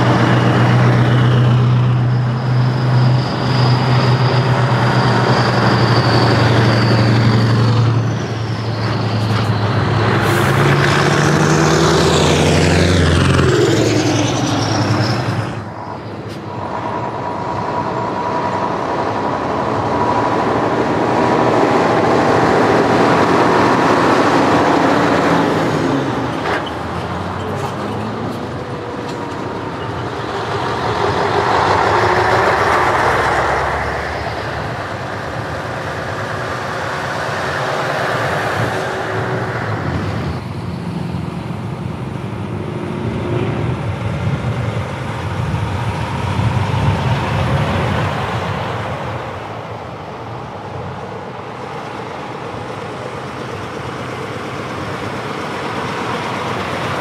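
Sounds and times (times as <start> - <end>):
heavy trucks driving past: 0.0 - 57.0.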